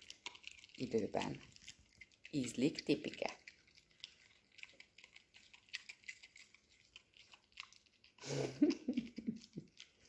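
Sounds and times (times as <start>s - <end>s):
dog chewing crunchy treat: 0.0s - 10.0s.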